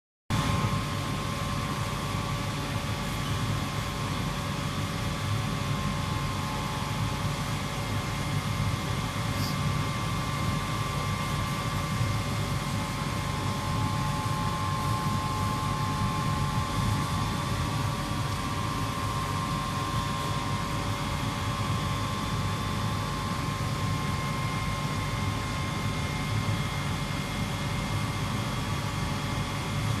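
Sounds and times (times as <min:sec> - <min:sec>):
machine hum and hiss: 0:00.3 - 0:30.0.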